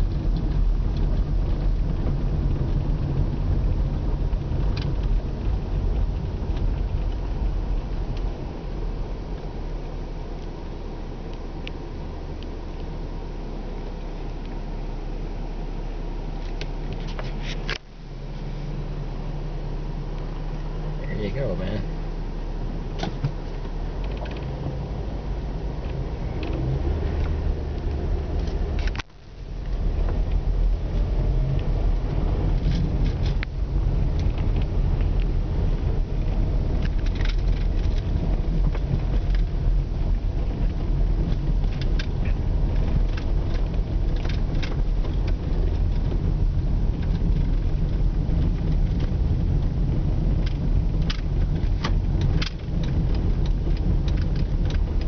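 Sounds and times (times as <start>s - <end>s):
vehicle engine and tyre rumble: 0.0s - 55.0s.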